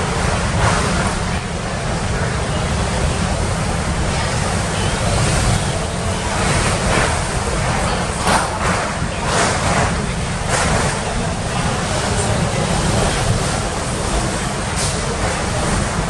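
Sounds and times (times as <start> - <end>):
strong wind rushing: 0.0 - 16.0.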